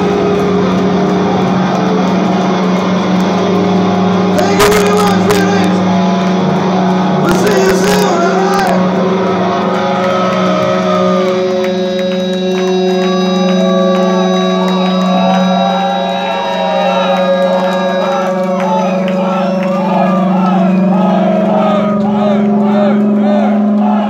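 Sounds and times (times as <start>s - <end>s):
crowd shouting and cheering: 0.0s - 24.0s
rock band chord ringing: 0.0s - 24.0s.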